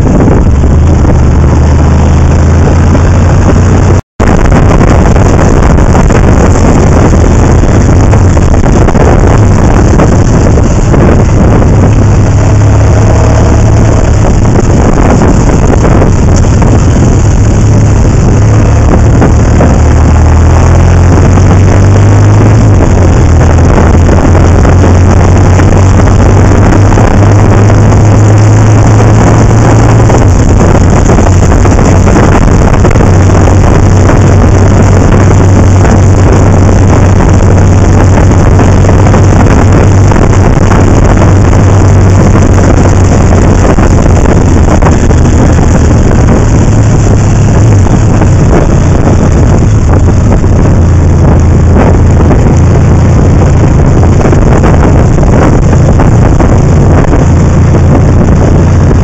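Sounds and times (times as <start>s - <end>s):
motorcycle engine running: 0.0s - 59.0s
wind over microphone: 0.0s - 59.0s.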